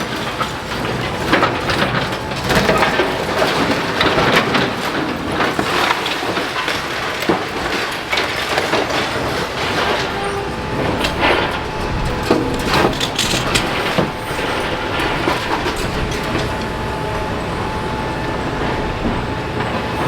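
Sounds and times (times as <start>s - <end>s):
excavator machinery noise: 0.0s - 20.0s
rubble crunching and knocking: 0.0s - 20.0s.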